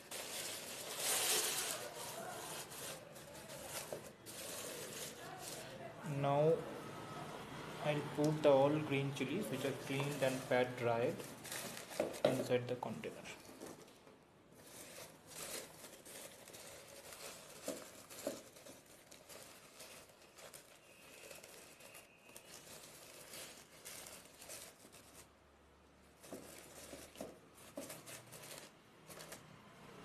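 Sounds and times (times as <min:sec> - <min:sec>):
paper rustling: 0:00.0 - 0:06.2, 0:08.2 - 0:14.0, 0:14.6 - 0:25.3, 0:26.1 - 0:29.5.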